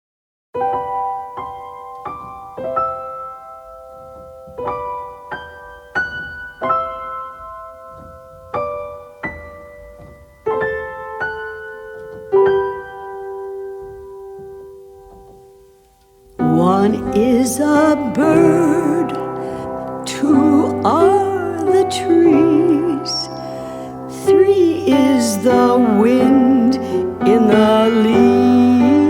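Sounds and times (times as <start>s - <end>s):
gentle solo piano: 0.6s - 29.0s.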